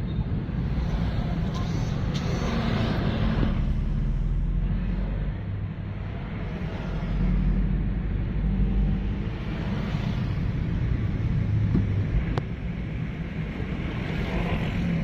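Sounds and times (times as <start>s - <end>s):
road and wind noise: 0.0s - 15.0s
vehicle engine rumbling: 0.0s - 15.0s.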